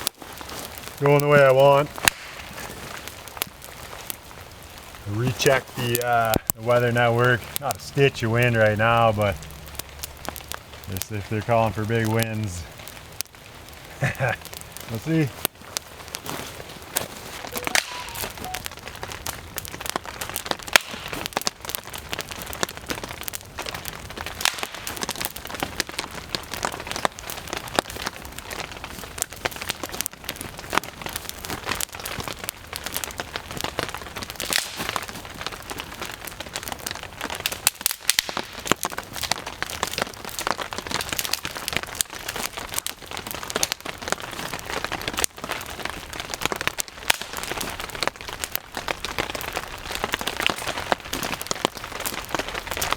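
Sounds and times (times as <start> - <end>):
steady rain with drop ticks: 0.0 - 52.9.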